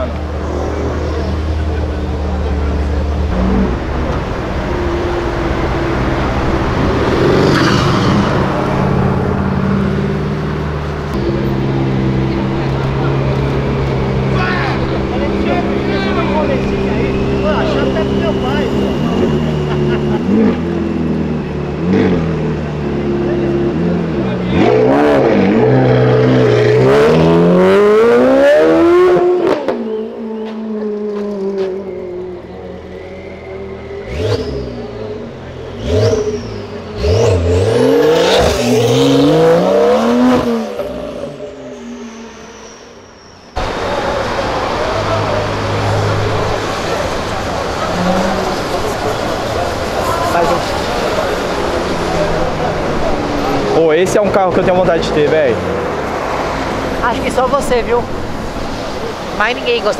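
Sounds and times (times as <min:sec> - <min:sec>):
car engine pulling away: 0:00.0 - 0:59.9.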